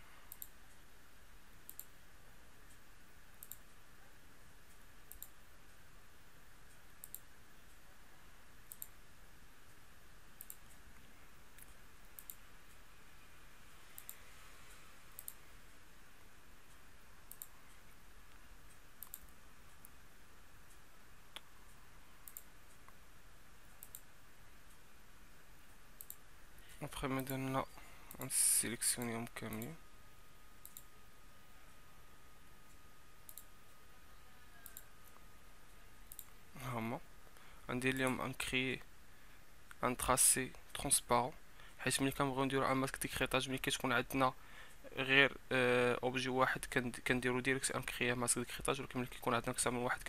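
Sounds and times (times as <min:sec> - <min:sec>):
faint steady hiss: 0:00.0 - 0:50.0.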